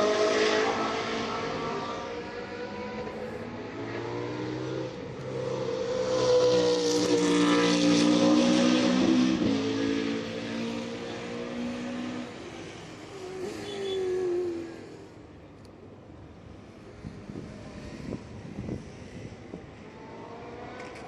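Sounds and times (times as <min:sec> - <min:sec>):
race car engine passing: 0:00.0 - 0:15.0, 0:17.1 - 0:21.0.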